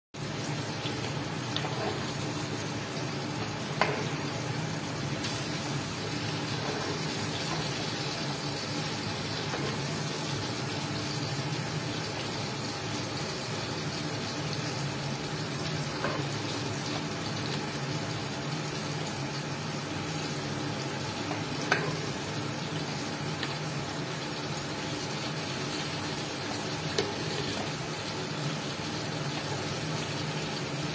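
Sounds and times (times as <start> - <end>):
rice bubbling in a pot: 0.2 - 30.9.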